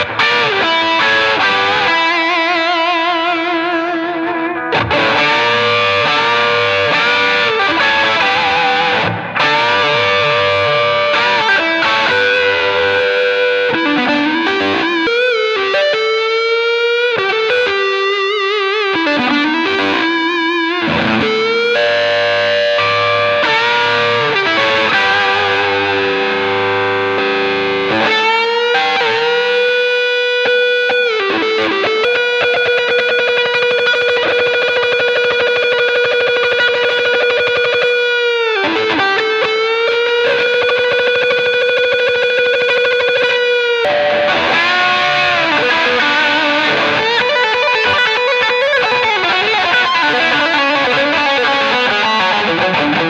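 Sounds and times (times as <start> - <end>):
overdriven electric guitar lead: 0.0 - 53.0.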